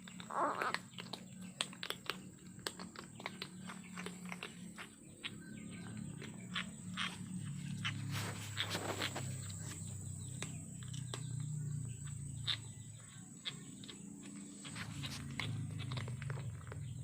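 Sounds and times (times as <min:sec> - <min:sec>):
kittens chewing clicks: 0:00.0 - 0:17.0.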